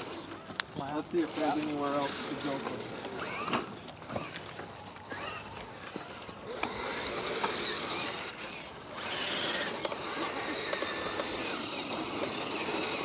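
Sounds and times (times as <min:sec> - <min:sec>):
electric motor and gears whining: 0:00.0 - 0:13.0
tires scrabbling on stone: 0:00.0 - 0:13.0.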